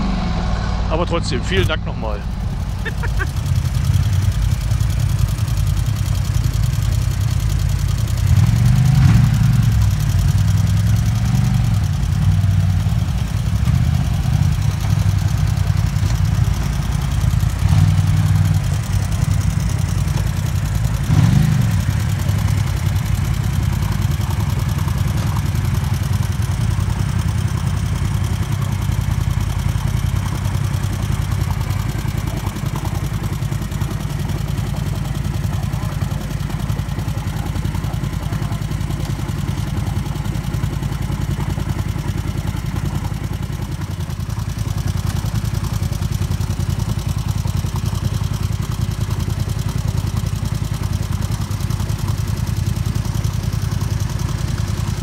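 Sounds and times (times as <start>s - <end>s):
vehicle engine running and revving: 0.0s - 55.0s.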